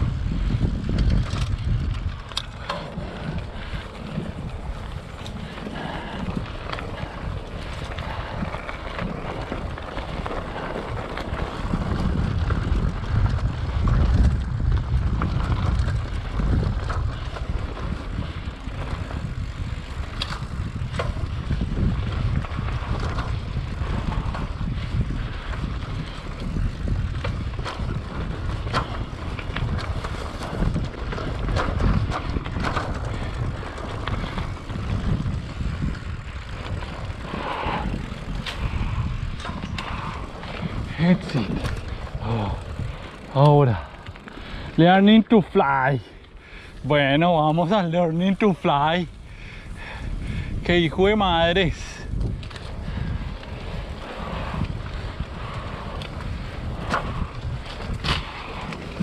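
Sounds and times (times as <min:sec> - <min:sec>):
bike clicks and rattles: 0:00.0 - 0:59.0
bike tyre rumble on dirt: 0:00.0 - 0:59.0
wind buffeting microphone: 0:00.0 - 0:59.0.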